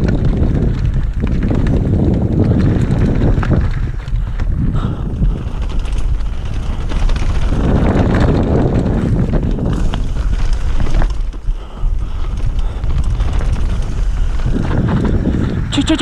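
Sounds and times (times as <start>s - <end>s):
bike clattering over rough trail: 0.0s - 16.0s
loud wind noise on microphone: 0.0s - 16.0s.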